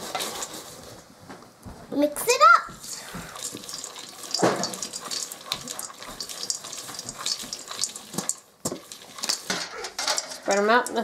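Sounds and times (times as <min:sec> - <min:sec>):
spatula stirring seeds in metal bowl: 0:00.0 - 0:00.9, 0:02.7 - 0:11.0.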